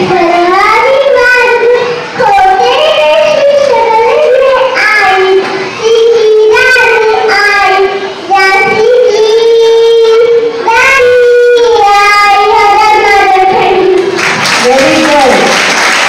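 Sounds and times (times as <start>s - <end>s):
girl singing: 0.0s - 14.2s.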